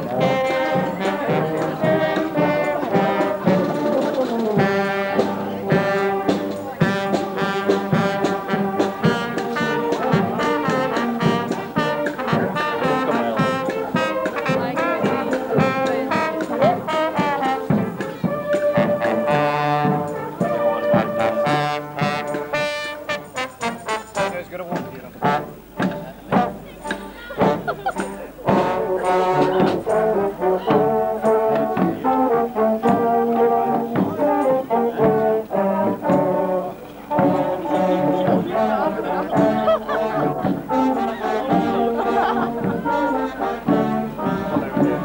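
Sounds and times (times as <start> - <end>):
brass playing a tune: 0.0 - 45.0
snare drums: 0.0 - 45.0.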